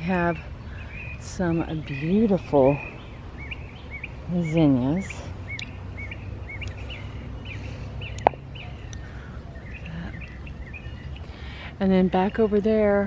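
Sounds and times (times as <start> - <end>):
bird chirping: 0.0 - 13.0
low steady hum: 0.0 - 13.0.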